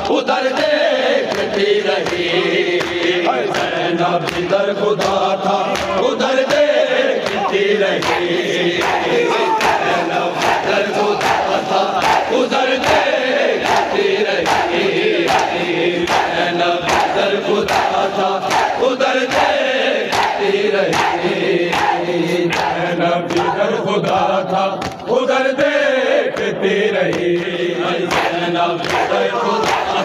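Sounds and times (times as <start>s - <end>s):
men's voices chanting: 0.0s - 30.0s
hands slapping on chests: 0.5s - 9.0s, 9.6s - 19.5s, 20.1s - 25.1s, 26.3s - 30.0s.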